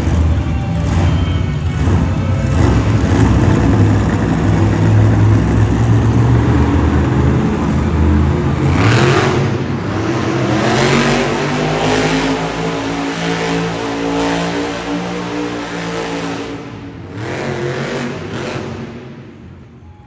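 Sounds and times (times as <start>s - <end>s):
truck engine revving hard: 0.0s - 19.5s.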